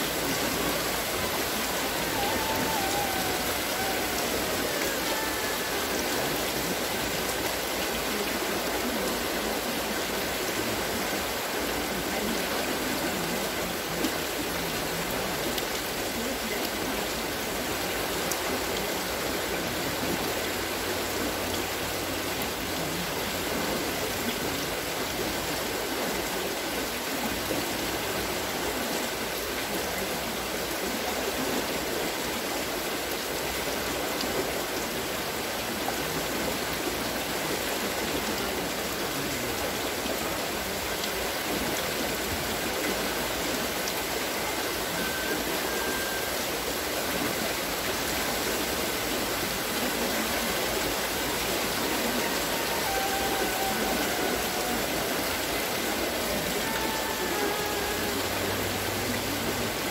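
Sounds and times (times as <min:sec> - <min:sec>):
water wheel splashing water: 0:00.0 - 0:59.9.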